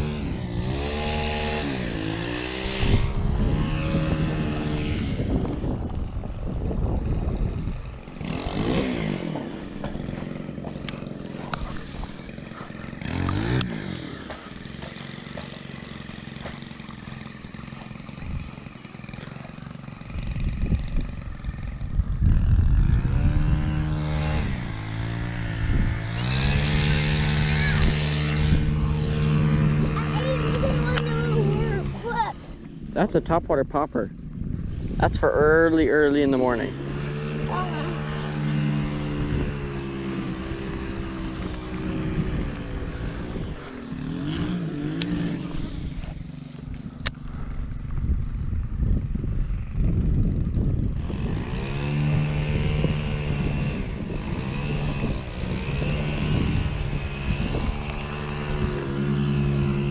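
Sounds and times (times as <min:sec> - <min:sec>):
engine revving: 0:00.0 - 0:33.8, 0:34.6 - 0:47.8, 0:50.5 - 0:59.9.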